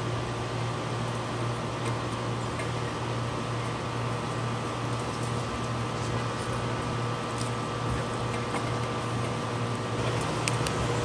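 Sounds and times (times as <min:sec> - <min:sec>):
room tone hum and hiss: 0:00.0 - 0:11.0.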